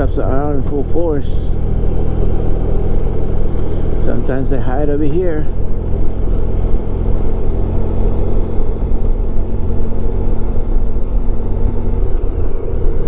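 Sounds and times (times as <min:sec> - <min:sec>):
motorcycle engine cruising: 0:00.0 - 0:13.0
riding noise: 0:00.0 - 0:13.0.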